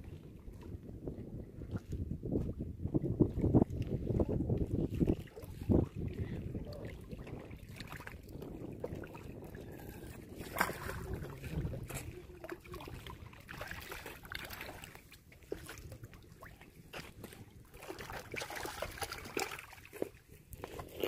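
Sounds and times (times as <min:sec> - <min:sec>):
wind rumble on microphone: 0:00.0 - 0:21.0
water splashing against rocks: 0:03.4 - 0:21.0.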